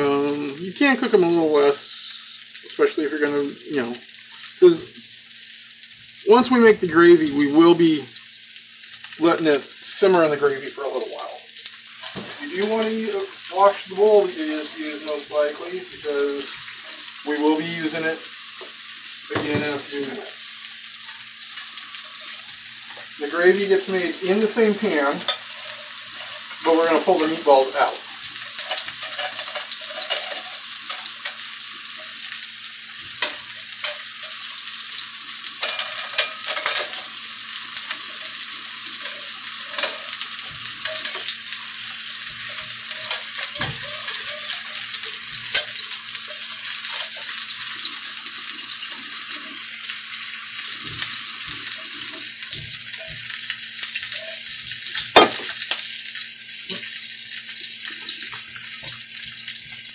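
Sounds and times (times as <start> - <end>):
meatballs sizzling in oil: 0.0 - 59.9
oil crackling and popping: 0.0 - 59.9.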